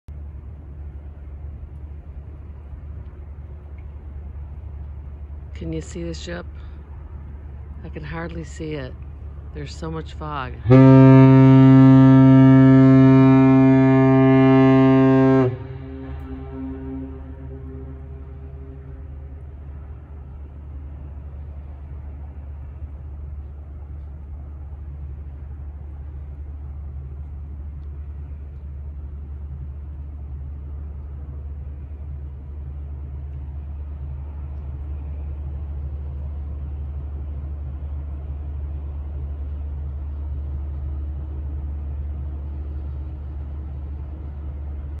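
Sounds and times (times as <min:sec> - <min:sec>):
ship engine rumble: 0:00.1 - 0:45.0.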